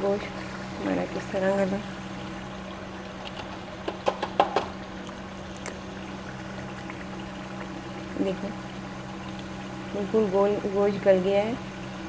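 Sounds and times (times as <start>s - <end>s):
constant low hum: 0.0s - 12.0s
gravy bubbling: 0.0s - 12.0s.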